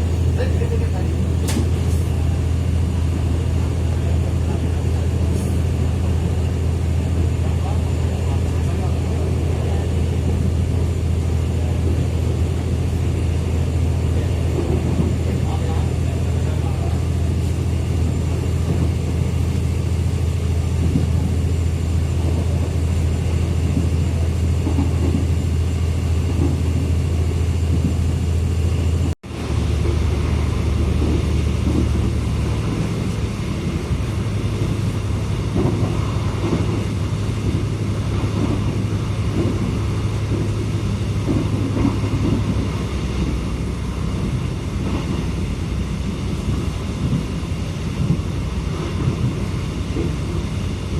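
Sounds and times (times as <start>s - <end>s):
train rumble and hum: 0.0s - 50.9s.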